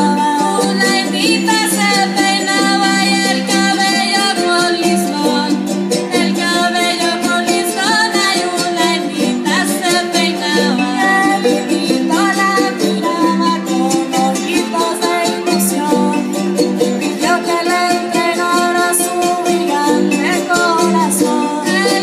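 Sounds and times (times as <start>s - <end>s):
person singing: 0.0s - 22.0s
strummed string instruments: 0.0s - 22.0s.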